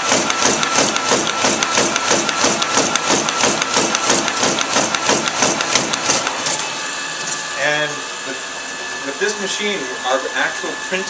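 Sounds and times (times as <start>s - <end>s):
duplicator printing: 0.0s - 11.0s.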